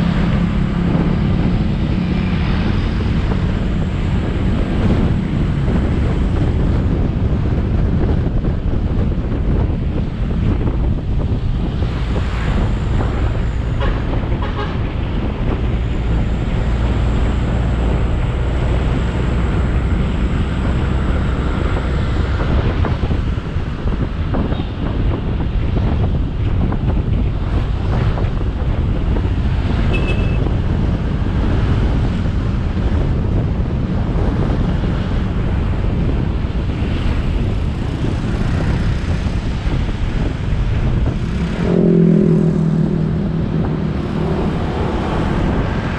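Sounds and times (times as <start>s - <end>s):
road noise: 0.0s - 45.9s
wind on microphone: 0.0s - 45.9s.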